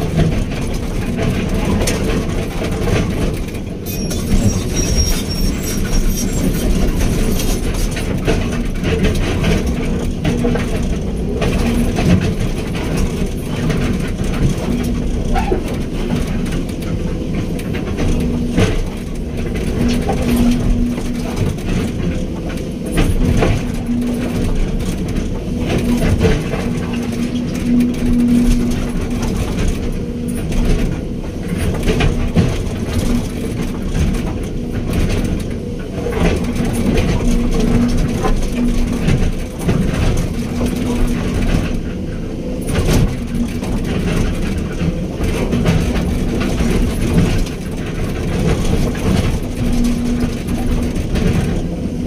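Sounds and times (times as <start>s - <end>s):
excavator diesel engine running: 0.0s - 52.0s
machine knocks and clanks: 0.0s - 52.0s.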